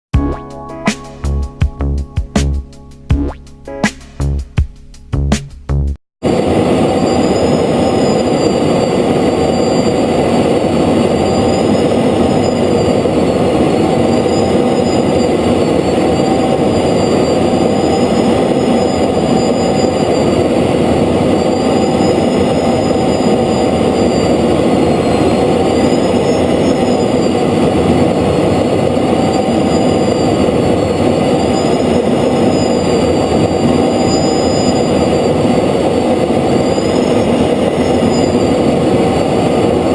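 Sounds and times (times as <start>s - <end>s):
faint high whine: 6.2s - 39.9s
jet engine roar: 6.2s - 39.9s.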